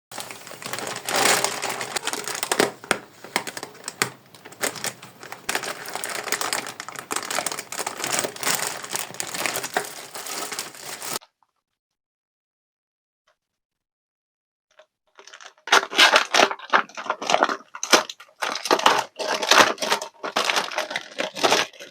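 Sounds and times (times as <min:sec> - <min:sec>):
packaging crinkling and rustling: 0:00.1 - 0:11.2, 0:15.2 - 0:21.9.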